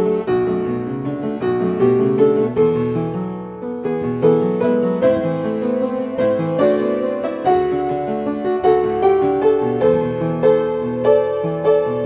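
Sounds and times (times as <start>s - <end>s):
upright piano piece: 0.0s - 12.0s.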